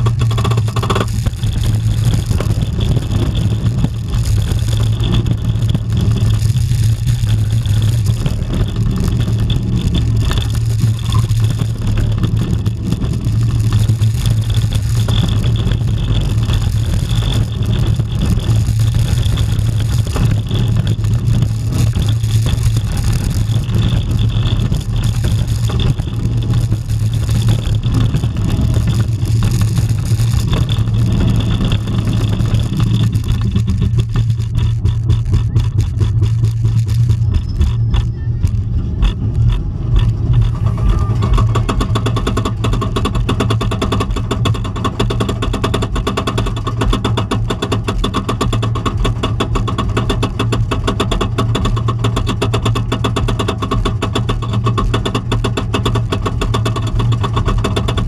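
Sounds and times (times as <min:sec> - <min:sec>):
wind buffeting microphone: 0:00.0 - 0:49.2
roller coaster wheels rumbling: 0:00.0 - 0:58.0.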